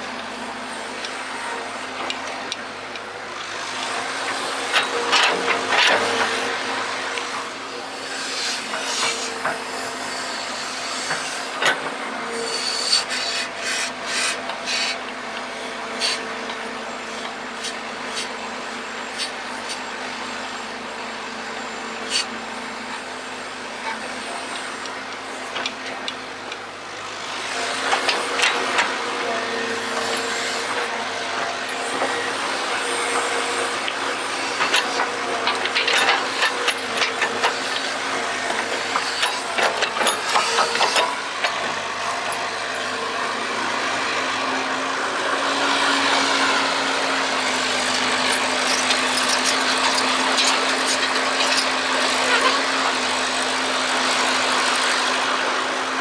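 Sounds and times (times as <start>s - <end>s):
excavator clattering and scraping: 0.0s - 56.0s
excavator engine humming: 0.0s - 56.0s.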